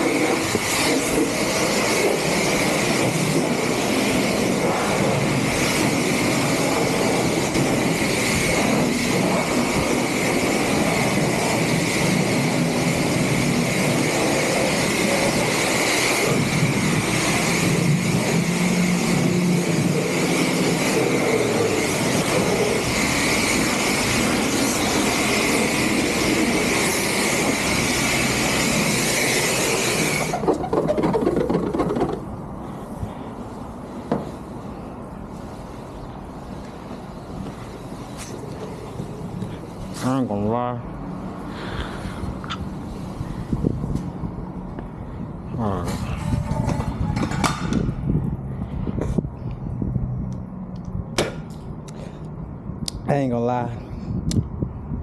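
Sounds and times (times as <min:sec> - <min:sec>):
car wash rushing with whine: 0:00.0 - 0:55.0.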